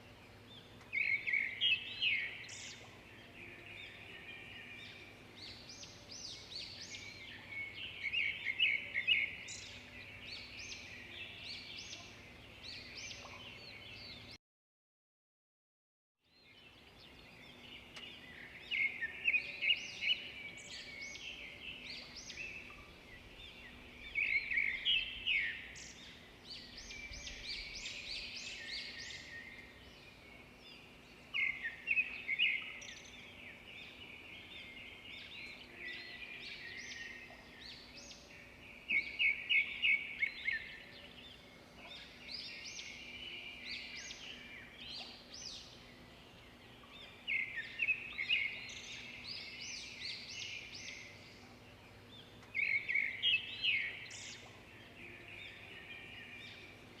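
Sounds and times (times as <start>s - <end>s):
songbirds singing and chirping: 0.0s - 14.4s, 16.2s - 57.0s.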